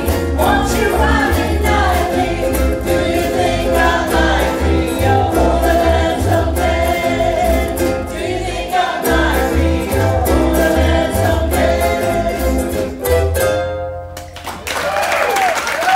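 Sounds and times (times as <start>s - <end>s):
voices singing together: 0.0s - 13.1s
pulsing bass line: 0.0s - 13.4s
strummed ukuleles: 0.0s - 14.6s.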